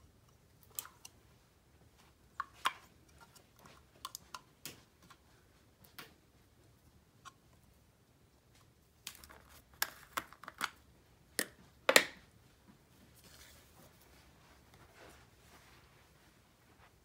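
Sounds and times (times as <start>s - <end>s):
faint soft noise: 0.0s - 17.0s.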